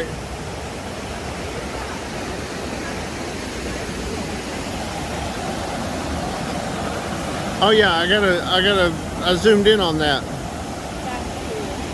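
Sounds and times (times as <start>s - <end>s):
river water rushing: 0.0s - 11.9s.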